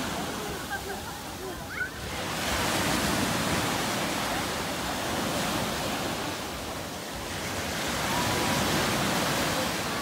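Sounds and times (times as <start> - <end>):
sea waves breaking on shore: 0.0 - 10.0.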